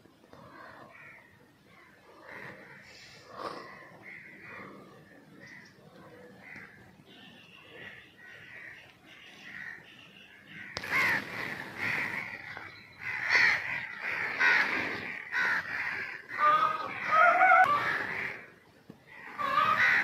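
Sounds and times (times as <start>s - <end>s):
crows cawing: 0.3s - 6.9s, 7.8s - 20.0s.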